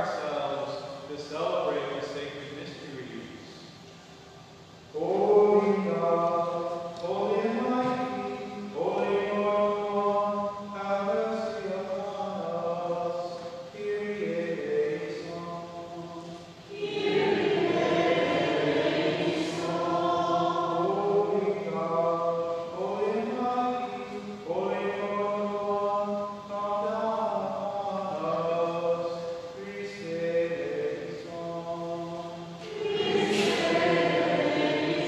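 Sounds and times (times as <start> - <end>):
voices singing a chant-like hymn: 5.0 - 35.0.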